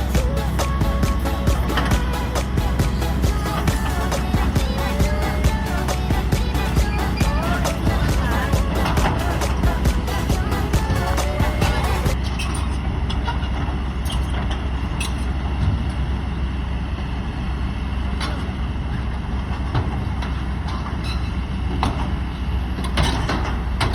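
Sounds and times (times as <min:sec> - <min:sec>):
excavator diesel engine droning: 0:00.0 - 0:23.9.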